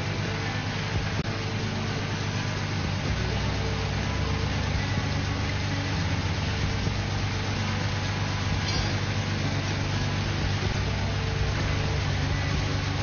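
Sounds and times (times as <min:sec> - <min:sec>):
constant hiss: 0:00.0 - 0:13.0
low engine hum: 0:00.0 - 0:13.0.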